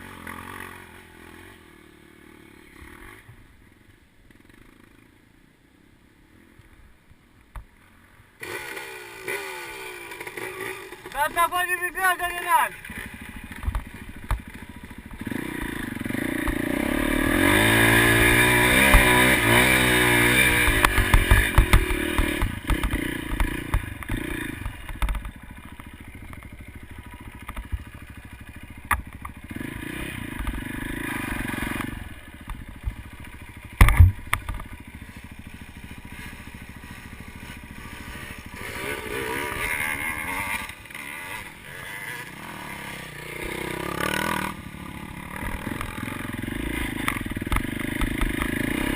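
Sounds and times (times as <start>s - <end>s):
dirt bike engines revving: 8.4s - 48.9s.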